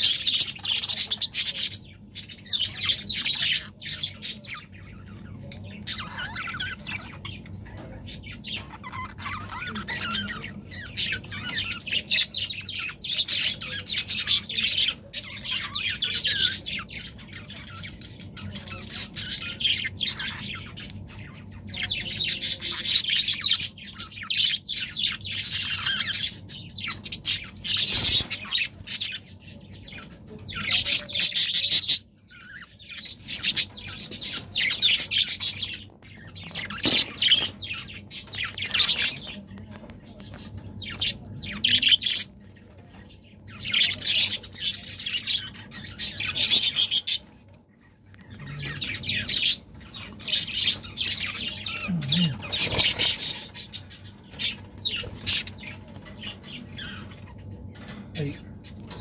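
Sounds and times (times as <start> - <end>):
budgerigars chattering and warbling: 0.0 - 59.0.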